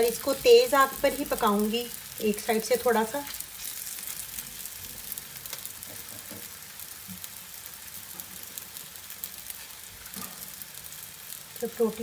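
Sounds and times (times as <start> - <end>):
dough sizzling in a frying pan: 0.0 - 12.0.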